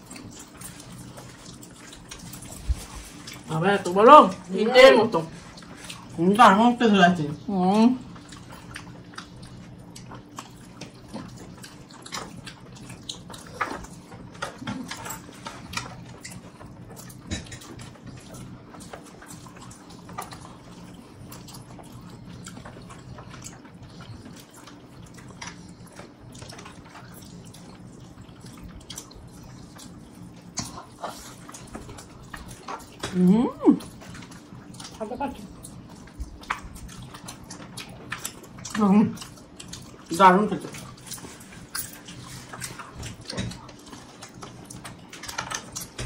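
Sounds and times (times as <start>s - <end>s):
wet chewing and lip smacks: 0.0s - 3.5s, 8.0s - 33.2s, 33.8s - 46.0s
faint steady hum: 0.0s - 46.0s.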